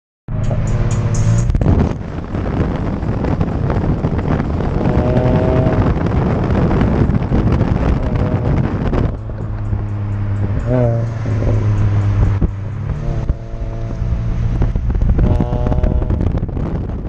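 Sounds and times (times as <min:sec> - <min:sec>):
car exhaust accelerating past: 0:00.3 - 0:17.0.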